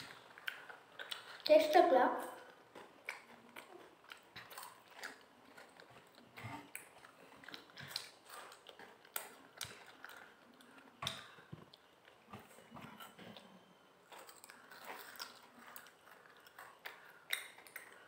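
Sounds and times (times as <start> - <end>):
crunching and chewing wafer: 0.0 - 1.5, 2.3 - 18.0.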